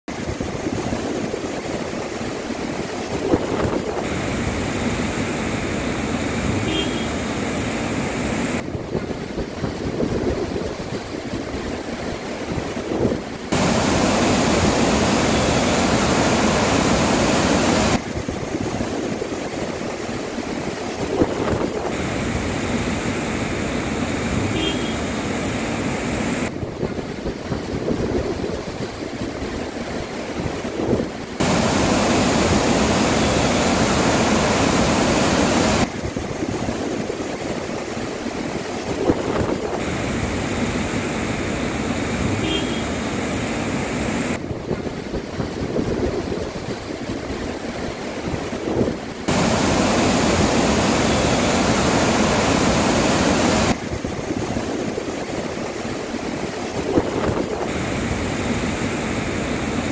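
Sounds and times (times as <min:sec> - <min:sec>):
rushing floodwater: 0:00.1 - 0:59.9.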